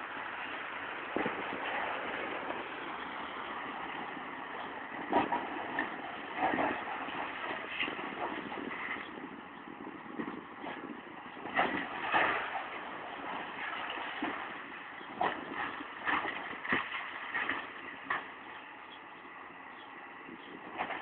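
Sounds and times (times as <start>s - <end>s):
excavator engine: 0.0s - 21.0s.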